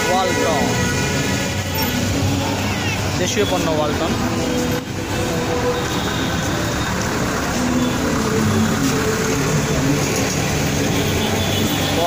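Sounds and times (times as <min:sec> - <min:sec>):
street noise: 0:00.0 - 0:12.0
truck engines driving past: 0:00.0 - 0:12.0.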